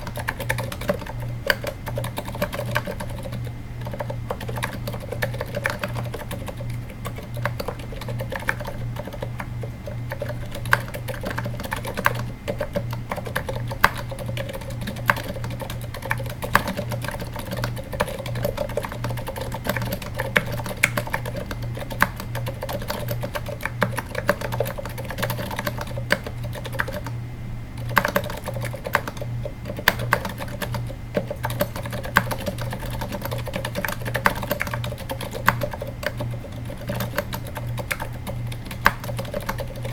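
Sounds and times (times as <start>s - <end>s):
soft muted keyboard typing: 0.0s - 27.2s, 27.8s - 39.9s
steady low hum: 0.0s - 39.9s.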